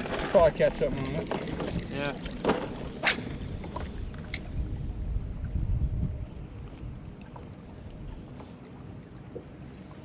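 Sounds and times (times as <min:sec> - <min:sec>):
wind and water rumble: 0:00.0 - 0:10.0.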